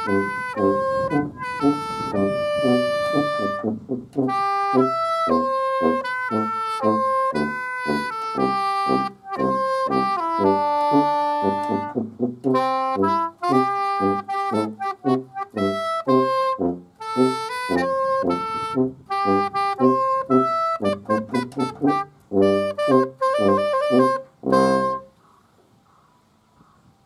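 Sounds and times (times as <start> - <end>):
soprano saxophone melody: 0.0 - 25.1
tuba bass line: 0.0 - 25.1.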